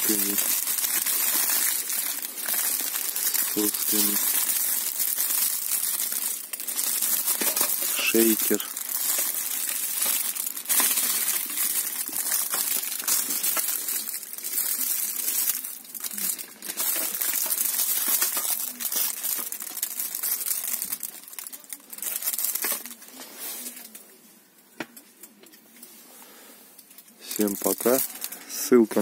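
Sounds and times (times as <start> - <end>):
plastic bags crinkling: 0.0 - 24.0, 26.9 - 29.0.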